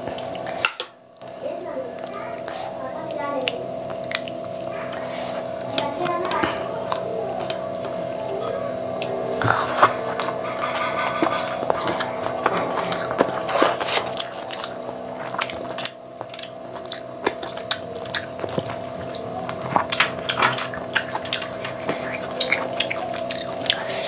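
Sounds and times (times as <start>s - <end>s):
person chewing: 0.0s - 0.9s, 1.9s - 24.0s
background hum: 0.0s - 24.0s.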